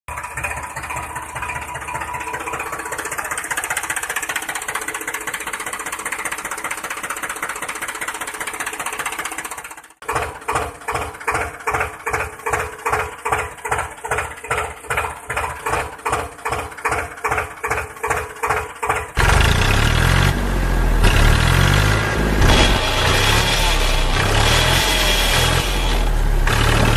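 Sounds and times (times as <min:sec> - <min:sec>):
tractor engine chugging: 0:00.1 - 0:26.9.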